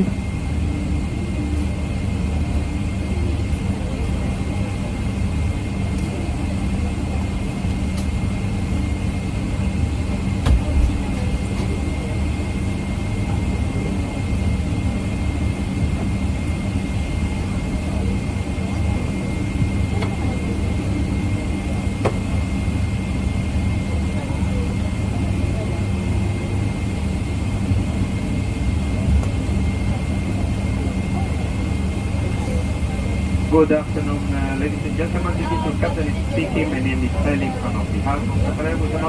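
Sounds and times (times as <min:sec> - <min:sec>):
airliner cabin hum and rumble: 0:00.0 - 0:39.0.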